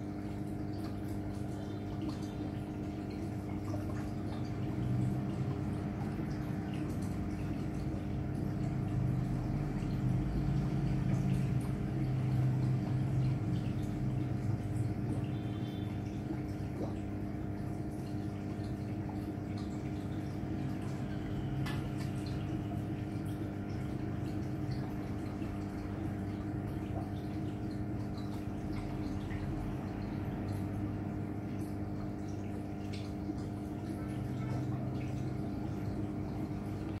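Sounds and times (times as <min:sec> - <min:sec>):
steady filter hum: 0:00.0 - 0:37.0
water trickling and dripping: 0:00.0 - 0:37.0.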